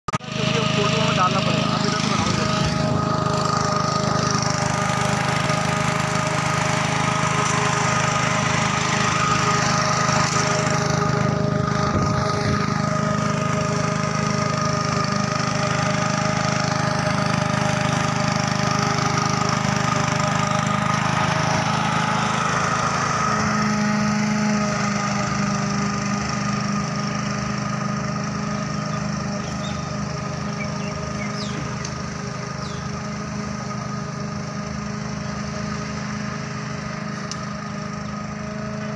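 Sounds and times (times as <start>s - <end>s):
lawn mower engine running: 0.1s - 38.9s.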